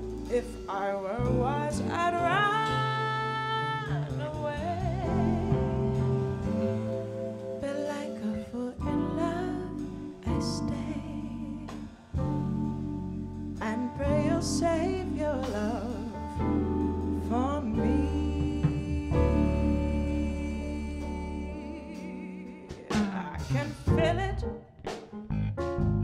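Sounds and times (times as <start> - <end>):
woman singing: 0.0 - 6.4, 7.6 - 12.2, 13.6 - 24.6
jazz band playing: 0.0 - 26.0.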